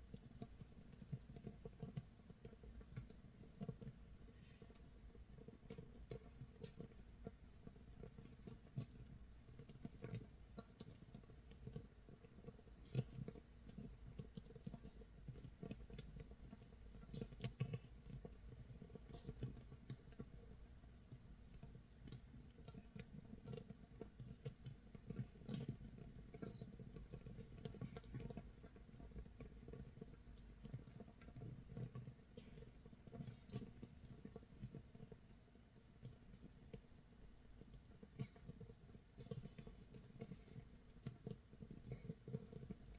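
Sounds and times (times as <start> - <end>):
fermentation bubbles crackling: 0.0 - 42.9.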